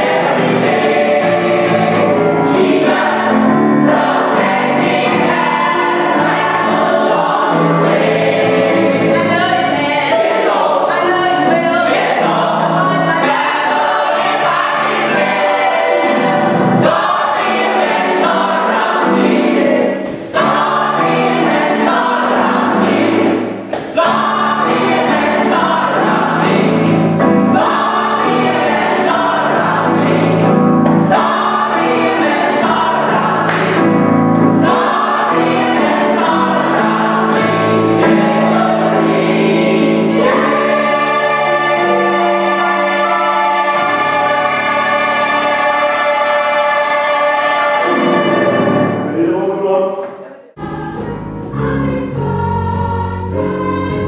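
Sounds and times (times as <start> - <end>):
gospel choir singing: 0.0 - 54.0.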